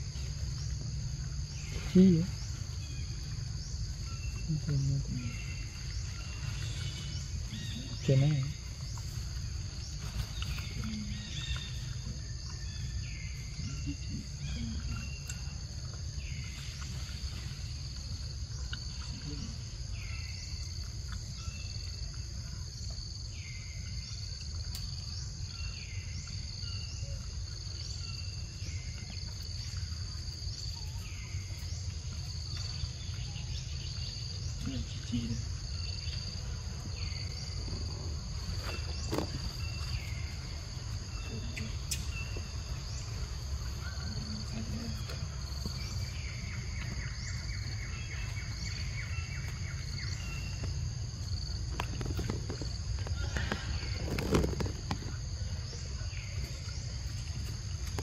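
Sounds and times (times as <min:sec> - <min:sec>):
insect chorus high drone: 0:00.0 - 0:58.0.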